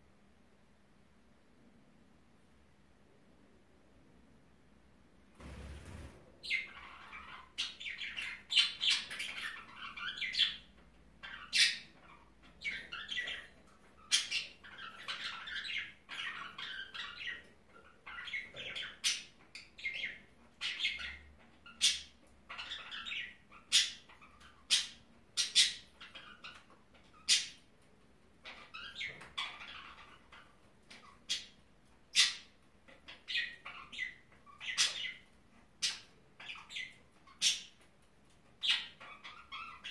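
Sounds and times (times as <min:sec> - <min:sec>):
budgerigars chirping and squawking: 0:05.4 - 0:27.7, 0:28.4 - 0:37.9, 0:38.5 - 0:39.9.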